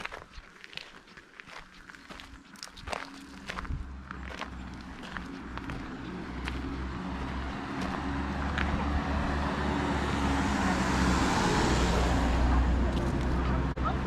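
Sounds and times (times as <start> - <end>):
motorhome engine and tyre noise: 0.0 - 14.0.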